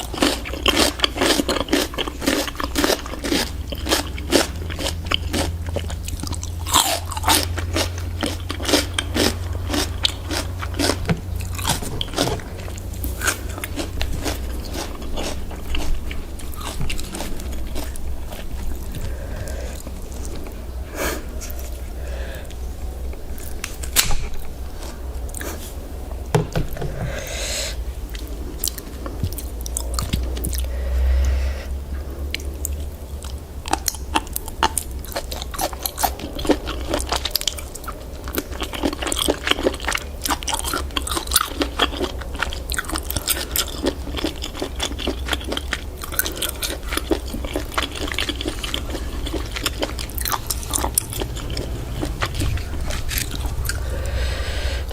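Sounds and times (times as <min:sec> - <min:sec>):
wet crunchy chewing: 0:00.0 - 0:31.4, 0:32.1 - 0:54.9
steady low hum: 0:00.0 - 0:54.9.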